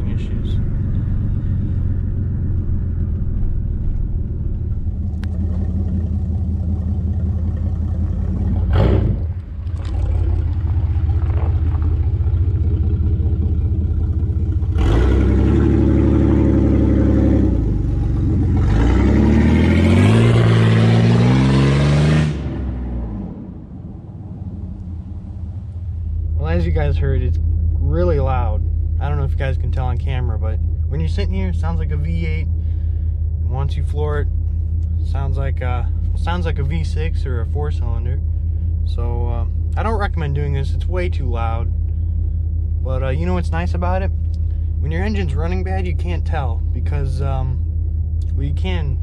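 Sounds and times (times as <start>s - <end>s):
truck engine droning and revving: 0.0s - 49.0s.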